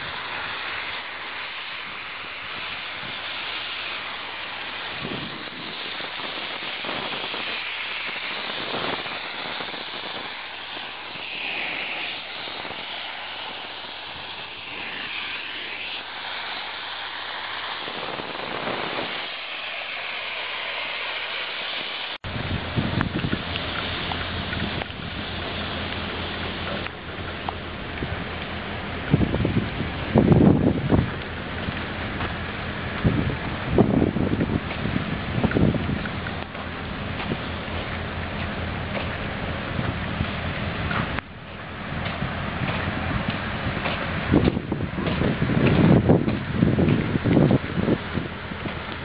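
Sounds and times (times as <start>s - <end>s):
rain hissing: 0.0s - 49.0s
wind rumbling on microphone: 0.0s - 49.0s.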